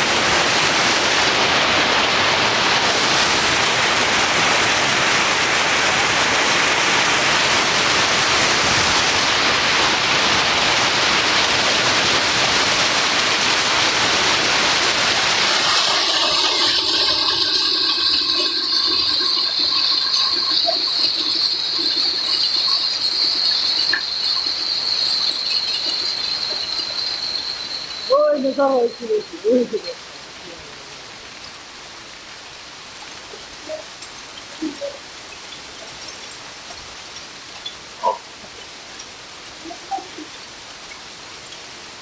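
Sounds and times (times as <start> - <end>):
running water rushing: 0.0 - 42.0.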